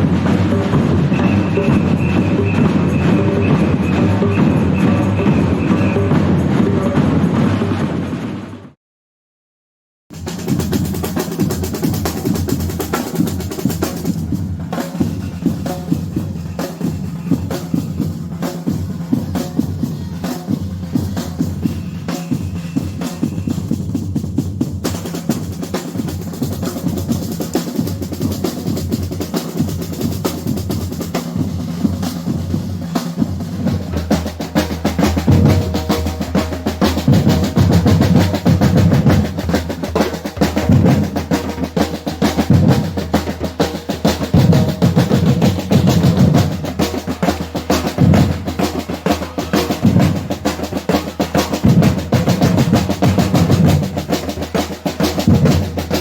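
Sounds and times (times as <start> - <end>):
fast snare drum rhythm: 0.0 - 7.9, 10.1 - 56.0.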